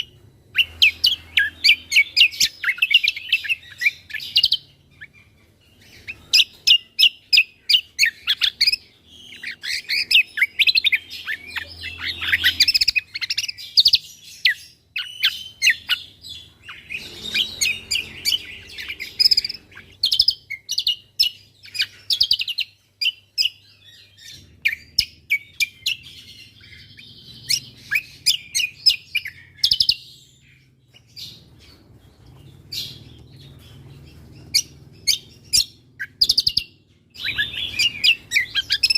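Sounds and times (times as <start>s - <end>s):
songbird singing chirps and trills: 0.0s - 38.9s.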